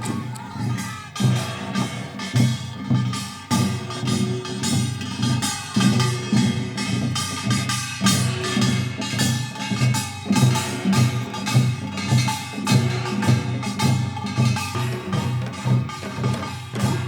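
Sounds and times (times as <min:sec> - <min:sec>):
sharp percussion strikes: 0:00.0 - 0:17.0
traditional drums: 0:00.0 - 0:17.0.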